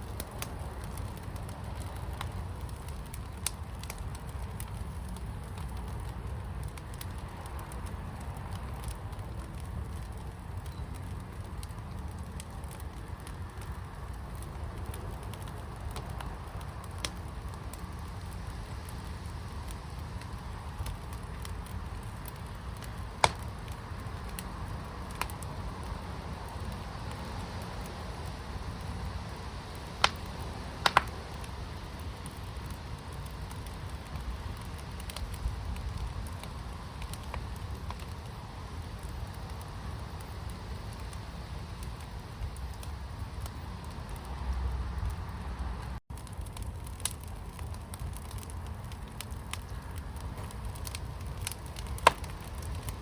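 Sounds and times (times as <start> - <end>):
fire burning with crackling pops: 0.0 - 53.0.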